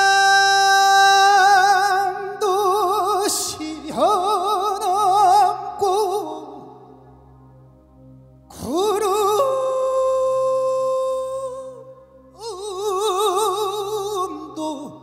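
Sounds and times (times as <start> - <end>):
man singing with vibrato: 0.0 - 6.9, 8.5 - 15.0
soft sustained accompaniment: 0.0 - 15.0.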